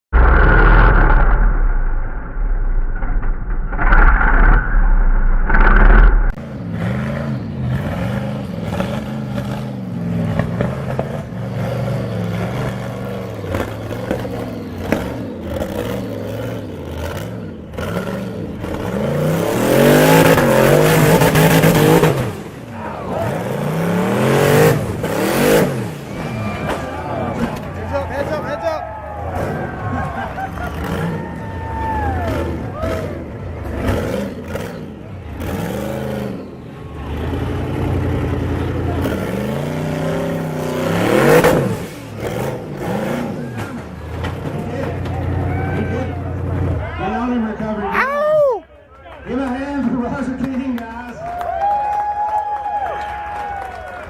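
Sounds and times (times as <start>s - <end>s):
buggy engine revving: 0.1s - 48.1s.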